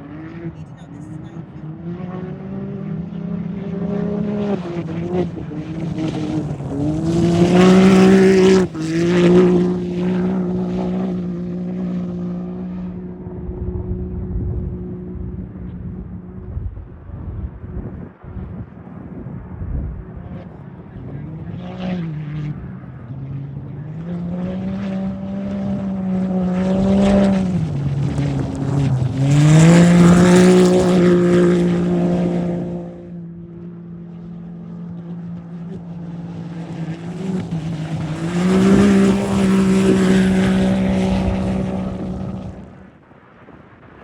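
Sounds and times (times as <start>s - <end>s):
racing engines passing at full throttle: 0.0s - 43.0s.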